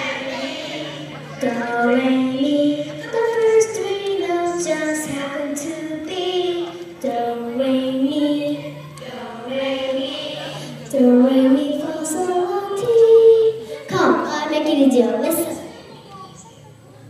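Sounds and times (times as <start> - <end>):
children's choir singing: 0.0 - 16.1.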